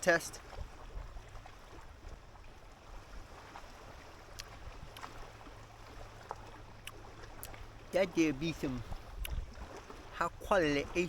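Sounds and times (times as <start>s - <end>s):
faint water sounds: 0.0s - 11.0s.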